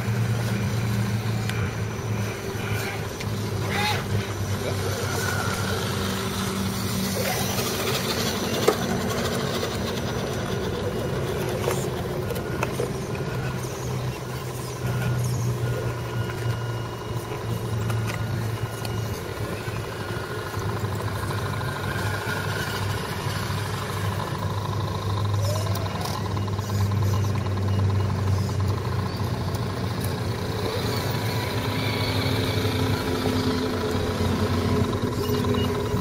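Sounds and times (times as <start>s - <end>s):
small electric motors whining: 0.0s - 36.0s.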